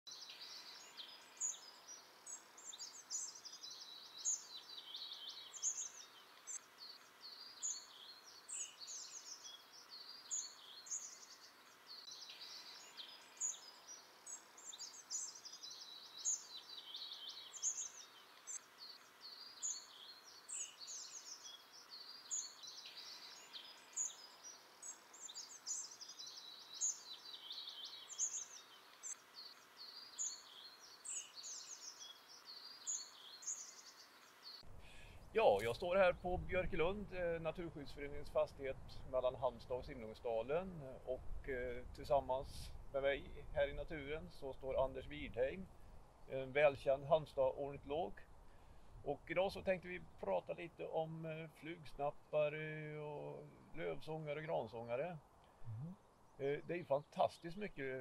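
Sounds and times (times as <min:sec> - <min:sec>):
faint steady hiss: 0:00.1 - 0:58.0
songbirds singing: 0:00.1 - 0:58.0.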